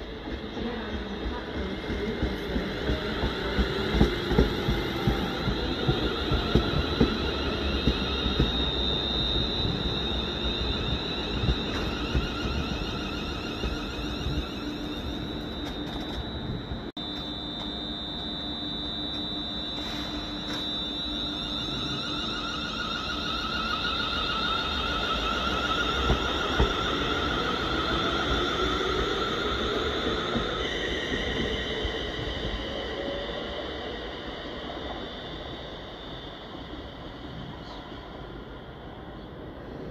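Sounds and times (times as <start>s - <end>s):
electric train motor whine: 0.0s - 39.9s
low train rumble: 0.0s - 39.9s.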